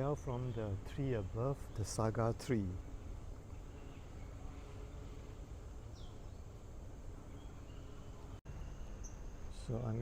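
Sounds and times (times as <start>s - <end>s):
faint insect drone: 0.0s - 10.0s.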